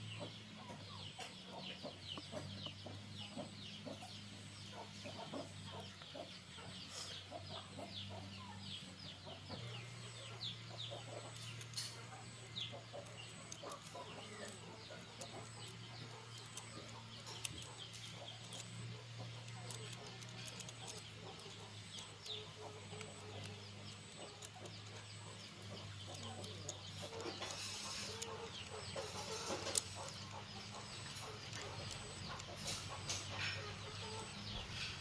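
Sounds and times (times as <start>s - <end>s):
chicks peeping: 0.0s - 35.0s
steady low hum: 0.0s - 35.0s.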